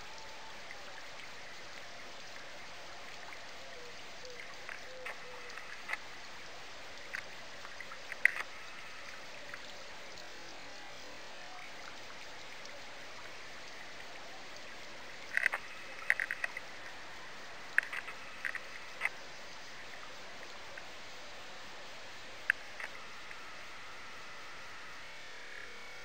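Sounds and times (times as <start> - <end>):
steady hiss of running water: 0.0 - 26.0.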